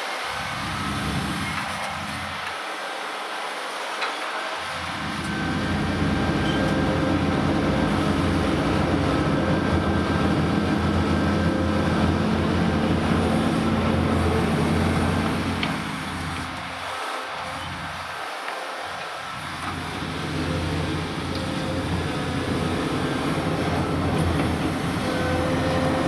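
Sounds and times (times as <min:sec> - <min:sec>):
heavy diesel engine humming: 0:00.3 - 0:02.5, 0:04.6 - 0:18.2, 0:18.9 - 0:26.0.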